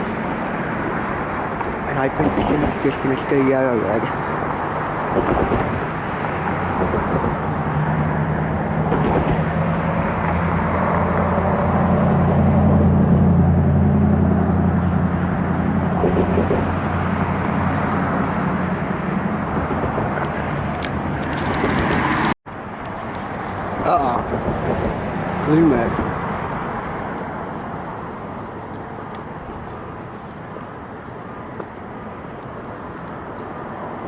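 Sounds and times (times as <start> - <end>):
vehicle engine hum: 0.0 - 34.0.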